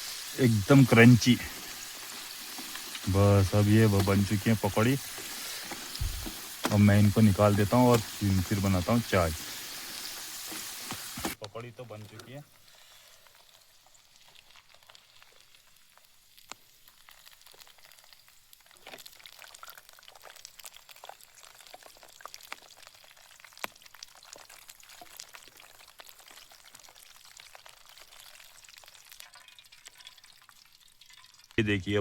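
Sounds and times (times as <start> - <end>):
food frying in hot oil: 0.0 - 31.6
oil crackles and pops: 0.0 - 31.7.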